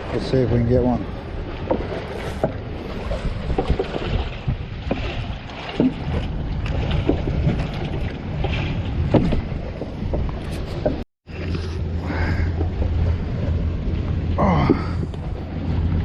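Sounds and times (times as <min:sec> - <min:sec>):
water lapping at boat hull: 0:00.0 - 0:16.0
wind on microphone: 0:01.0 - 0:16.0.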